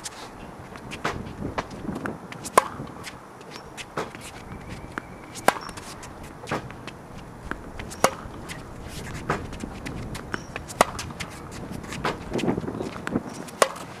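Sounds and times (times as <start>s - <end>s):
footsteps shuffling on hard court: 0.0s - 14.0s
tennis ball bouncing: 0.7s - 13.9s
tennis racket hitting ball: 0.7s - 14.0s.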